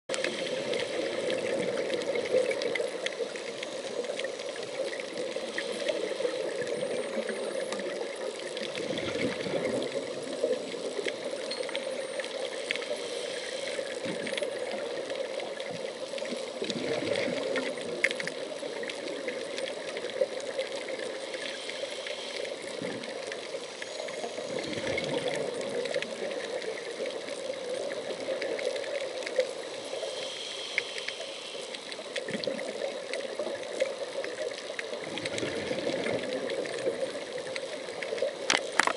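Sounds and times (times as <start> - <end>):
underwater rushing noise: 0.1 - 38.9.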